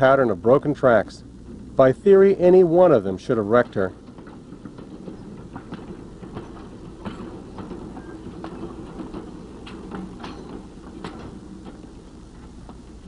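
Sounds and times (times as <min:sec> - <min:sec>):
railcars rumbling: 0:00.0 - 0:13.0
wheels clacking on rail gap: 0:00.0 - 0:13.0.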